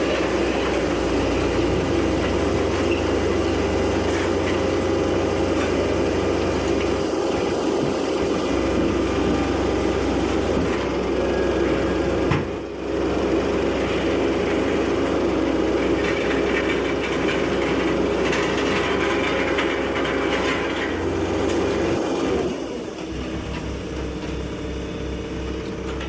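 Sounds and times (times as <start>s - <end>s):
engine and hydraulics droning: 0.0s - 26.0s.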